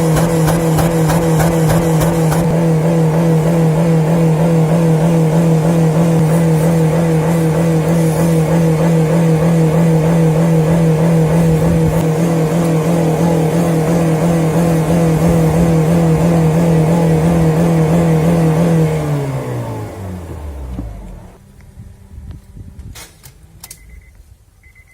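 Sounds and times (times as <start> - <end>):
engine at high revs: 0.0 - 21.4.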